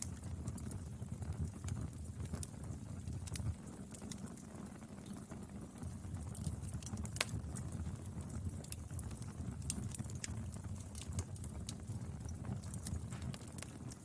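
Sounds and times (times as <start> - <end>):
low rumble of flames: 0.0 - 14.0
wood fire crackling and popping: 0.0 - 14.0.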